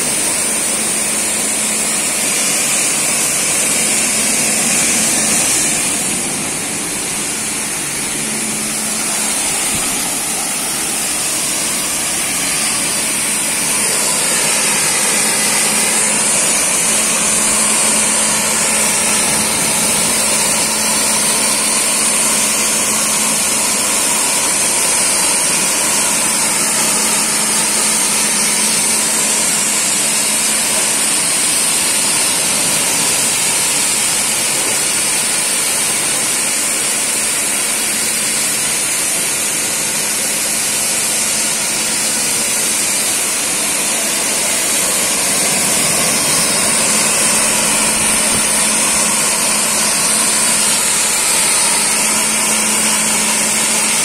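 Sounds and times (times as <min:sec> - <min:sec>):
motor hum: 0:00.0 - 0:54.0
water jets spraying hiss: 0:00.0 - 0:54.0.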